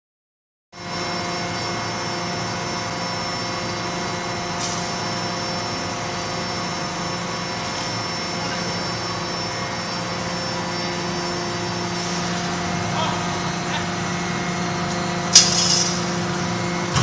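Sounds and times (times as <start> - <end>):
machinery drone: 0.8 - 17.0
steady whining tones: 0.8 - 17.0.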